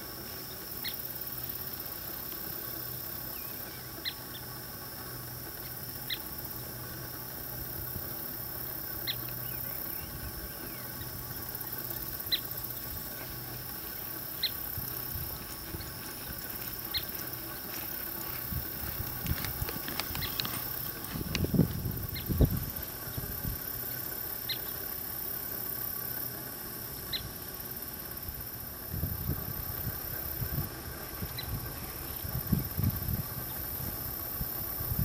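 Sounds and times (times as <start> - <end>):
outdoor background hum: 0.0 - 35.0.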